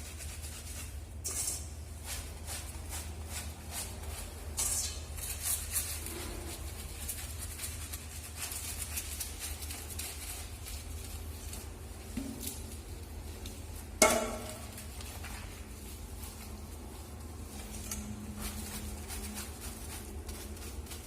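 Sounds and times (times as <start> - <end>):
hands scrubbing wet fur: 0.0 - 21.0.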